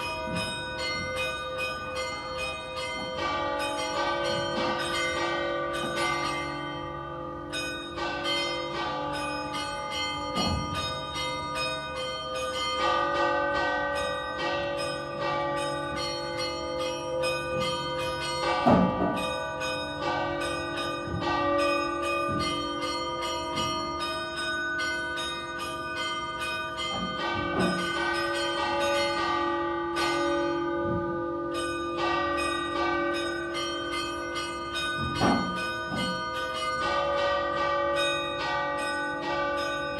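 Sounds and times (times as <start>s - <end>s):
hum of ringing bells: 0.0s - 39.9s
tower bells pealing: 0.0s - 39.9s.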